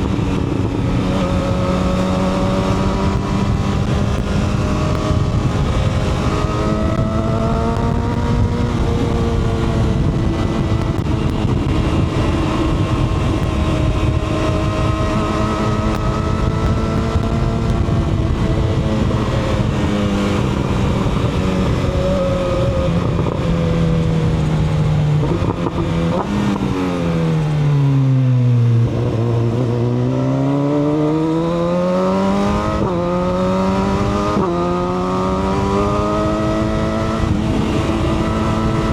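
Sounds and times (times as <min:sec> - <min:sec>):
motorcycle engine with gear changes: 0:00.0 - 0:38.9.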